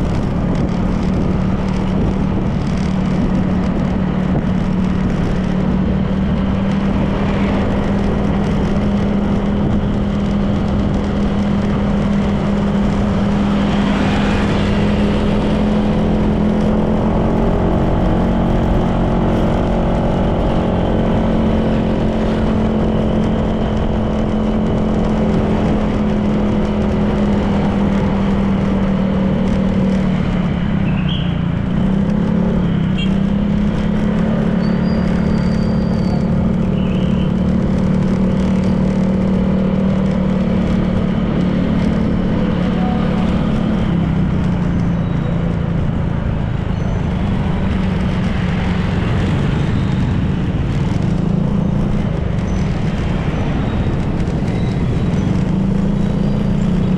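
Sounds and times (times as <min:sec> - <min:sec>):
road noise: 0:00.0 - 0:56.9
scooter engine running: 0:00.0 - 0:56.9
second engine: 0:00.0 - 0:56.9.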